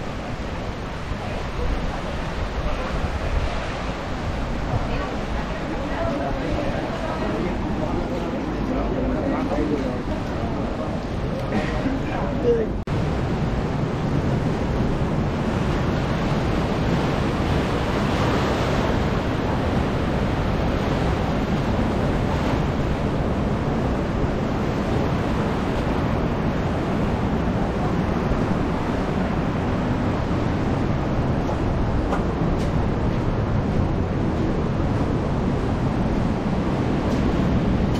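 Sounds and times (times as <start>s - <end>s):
ocean surf washing ashore: 0.0s - 37.9s
wind rumbling on microphone: 0.0s - 37.9s.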